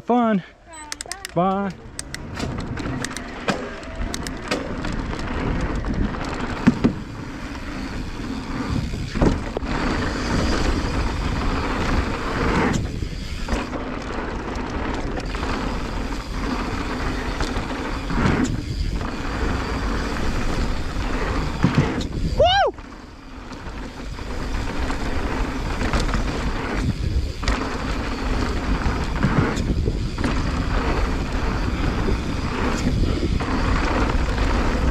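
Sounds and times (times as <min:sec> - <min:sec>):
bike rattling and knocking: 0:00.9 - 0:34.9
bike tyres rolling over dirt: 0:01.6 - 0:34.9.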